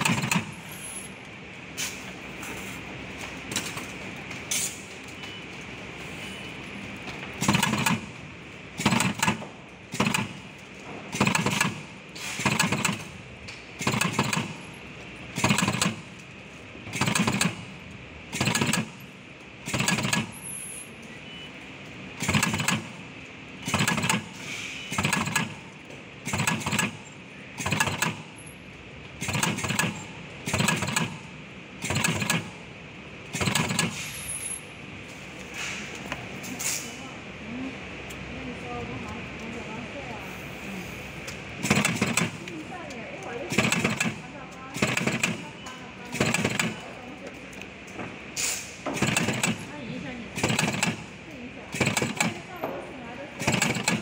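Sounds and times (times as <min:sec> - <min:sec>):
spot welder weld-and-press cycle: 0:00.0 - 0:02.8, 0:07.3 - 0:21.2, 0:21.8 - 0:36.9, 0:40.6 - 0:54.0.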